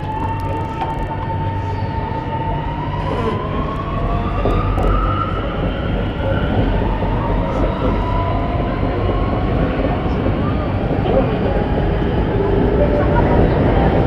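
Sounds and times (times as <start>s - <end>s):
metro train motors whining: 0.0s - 14.0s
train rumbling on track: 0.0s - 14.0s.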